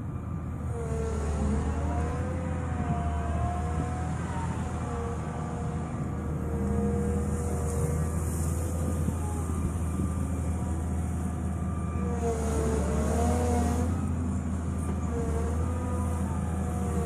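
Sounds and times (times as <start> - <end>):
diesel engine running: 0.0 - 17.0
hydraulic whine: 0.0 - 17.0.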